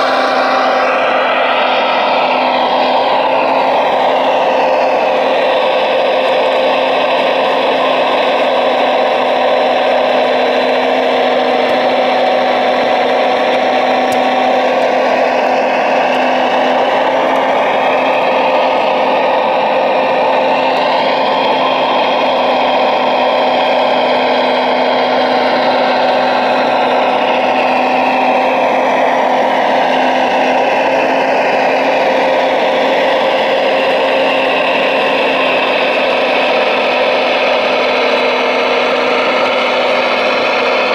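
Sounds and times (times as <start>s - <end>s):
model excavator motor hum: 0.0s - 40.9s
whine rising and falling in pitch: 0.0s - 40.9s.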